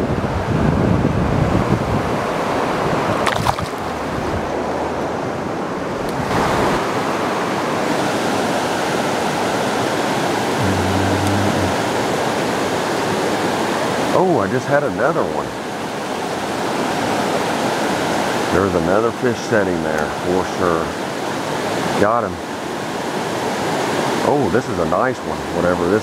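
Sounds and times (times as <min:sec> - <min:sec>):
water rushing over rapids: 0:01.9 - 0:26.0.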